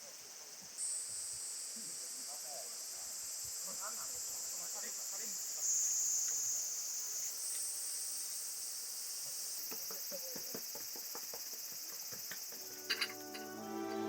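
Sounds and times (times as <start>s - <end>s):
insects singing: 0.0s - 14.0s.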